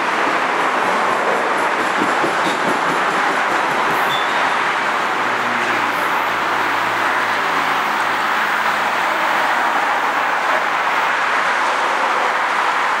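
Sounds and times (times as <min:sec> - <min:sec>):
heavy expressway traffic: 0:00.0 - 0:13.0.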